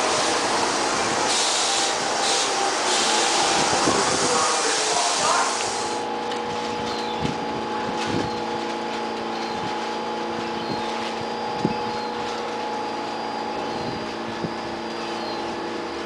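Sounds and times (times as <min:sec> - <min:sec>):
subway car equipment hum: 0:00.0 - 0:16.0.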